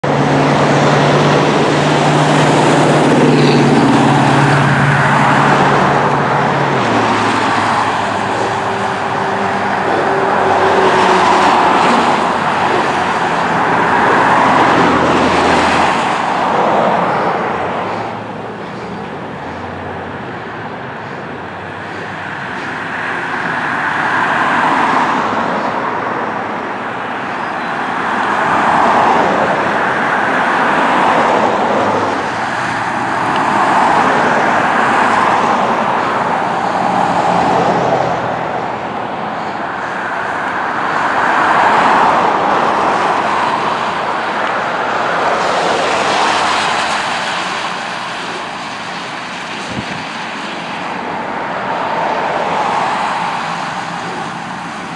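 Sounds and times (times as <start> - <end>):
low engine drone: 0.0 - 54.9
vehicles passing on wet road: 0.0 - 54.9.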